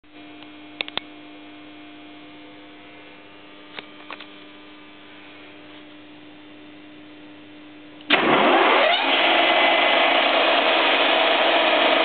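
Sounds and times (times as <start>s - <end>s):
electrical hum: 0.1s - 12.0s.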